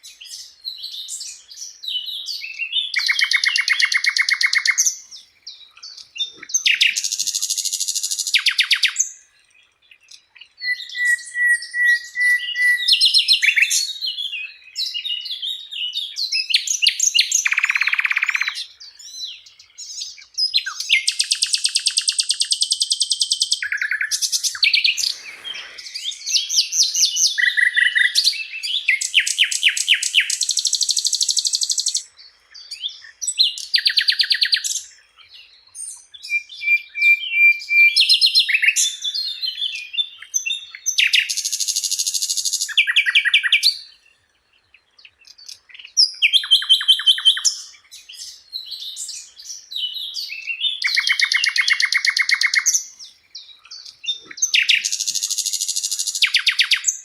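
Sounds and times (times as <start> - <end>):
bird singing fast trills: 0.0 - 57.0.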